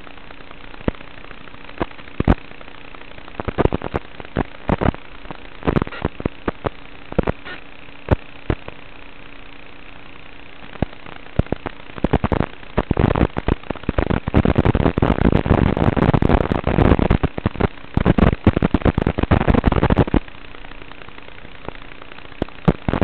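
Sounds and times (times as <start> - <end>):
static hiss: 0.0 - 23.0
static pops and crackles: 0.0 - 23.0.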